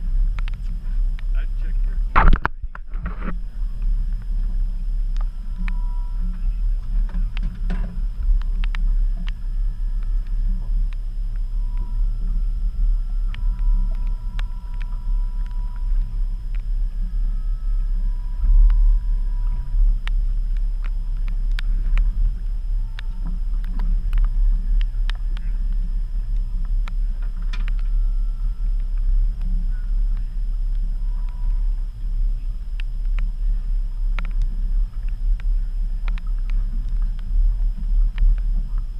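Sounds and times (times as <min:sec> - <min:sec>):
boat engine rumble: 0:00.0 - 0:38.9.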